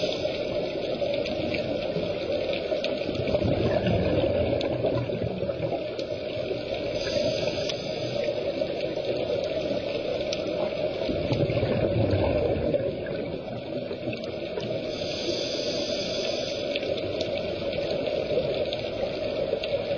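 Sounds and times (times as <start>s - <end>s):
faint clicks: 0.0s - 3.4s, 4.4s - 11.5s, 13.1s - 19.9s
underwater bubbling rush: 0.0s - 19.9s.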